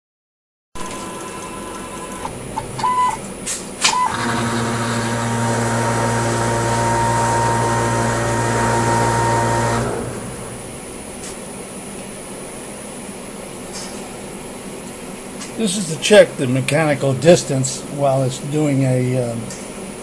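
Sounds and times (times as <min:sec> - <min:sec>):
motor hum and whine: 0:00.8 - 0:20.0.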